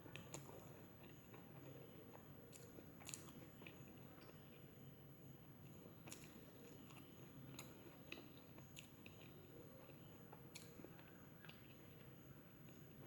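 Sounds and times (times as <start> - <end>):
chewing food: 0.1 - 13.0.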